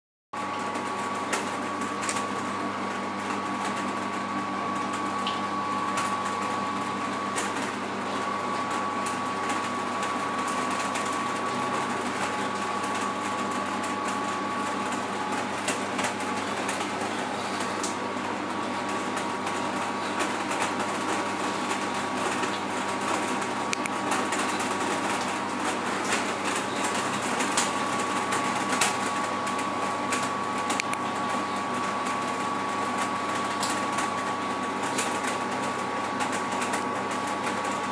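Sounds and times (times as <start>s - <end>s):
mechanical hum with whine: 0.4s - 37.9s.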